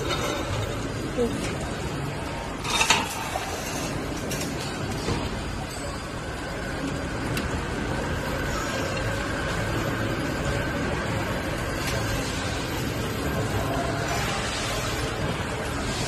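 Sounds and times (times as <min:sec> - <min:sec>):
machine droning with whine: 0:00.0 - 0:16.0.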